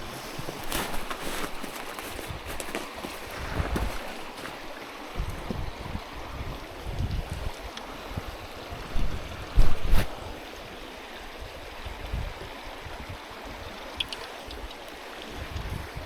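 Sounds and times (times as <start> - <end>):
stream running: 0.0 - 16.0.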